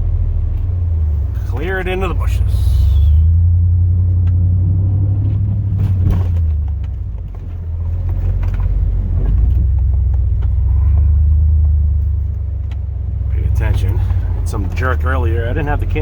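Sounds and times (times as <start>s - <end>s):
truck engine drone inside cab: 0.0s - 16.0s.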